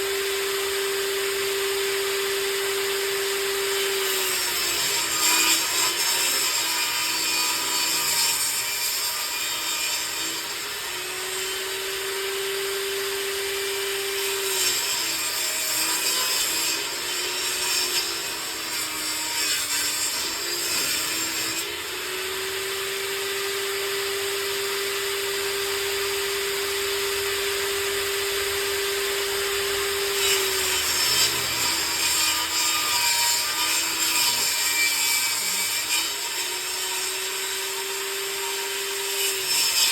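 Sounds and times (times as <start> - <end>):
table saw ripping wood: 0.0 - 39.9.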